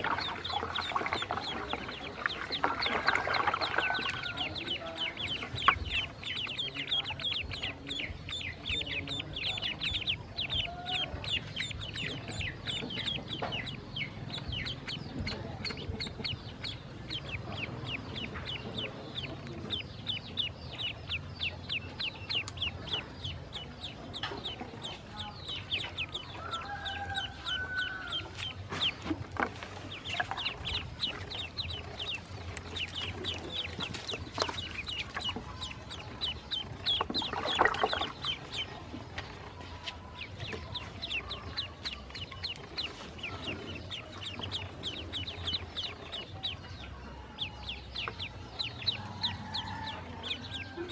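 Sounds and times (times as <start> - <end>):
ducklings peeping: 0.0 - 50.9.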